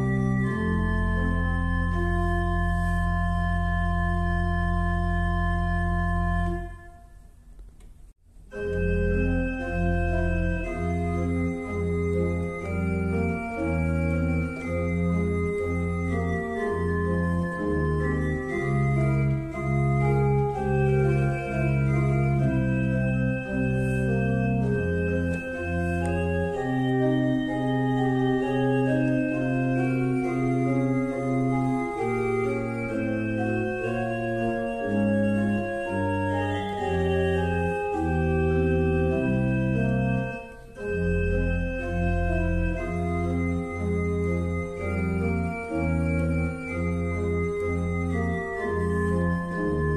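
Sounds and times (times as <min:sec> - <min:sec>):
organ bass line: 0:00.0 - 0:07.1, 0:08.5 - 0:49.9
organ chords: 0:00.0 - 0:07.4, 0:08.4 - 0:49.9.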